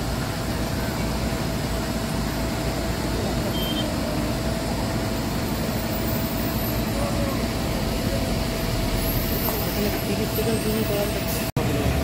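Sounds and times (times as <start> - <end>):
mid-pitched whine: 0.0 - 11.1
vehicle engines rumbling: 0.0 - 12.0.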